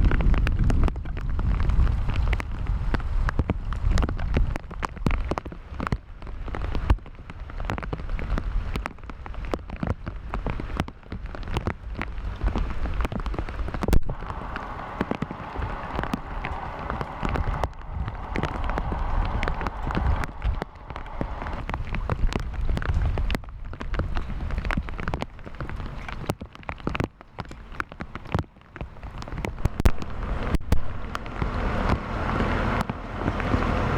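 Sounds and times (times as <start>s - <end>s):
rain drops falling: 0.0s - 33.9s
wind rumble on microphone: 0.0s - 33.9s.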